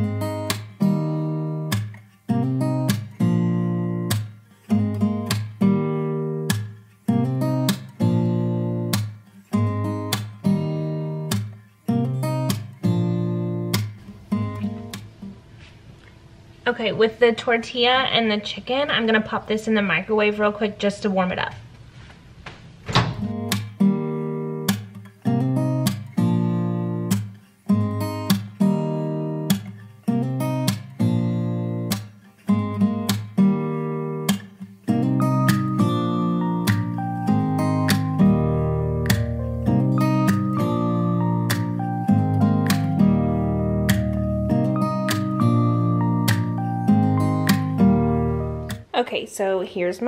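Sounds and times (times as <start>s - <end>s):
acoustic guitar strumming: 0.0s - 16.0s, 23.0s - 48.9s.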